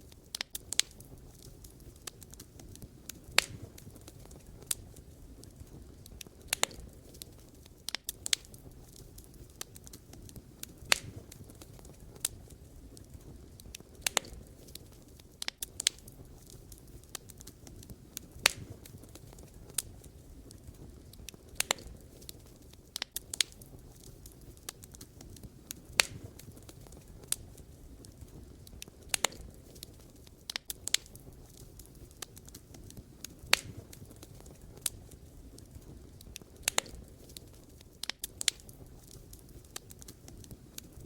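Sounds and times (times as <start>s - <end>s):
fire flames rumbling: 0.0s - 41.0s
wood fire popping and crackling: 0.0s - 41.0s.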